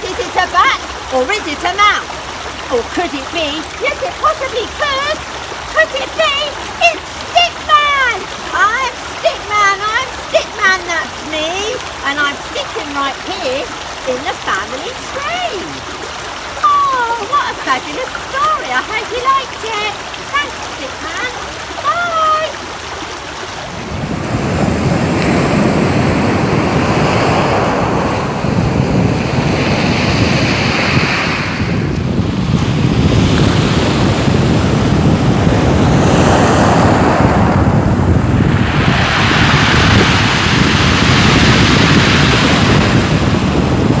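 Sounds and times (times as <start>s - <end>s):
sea waves breaking on shore: 0.0s - 44.0s
wind buffeting microphone: 0.0s - 44.0s.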